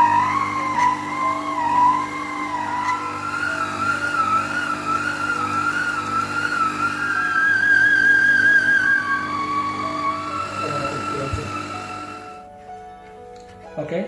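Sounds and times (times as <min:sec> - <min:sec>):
stand mixer motor whine: 0:00.0 - 0:12.6.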